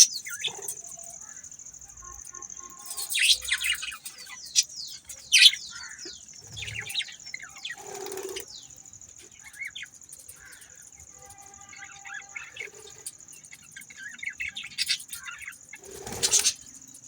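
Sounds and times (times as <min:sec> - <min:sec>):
budgerigars chirping and chattering: 0:00.0 - 0:01.5, 0:02.8 - 0:11.0, 0:11.6 - 0:17.0.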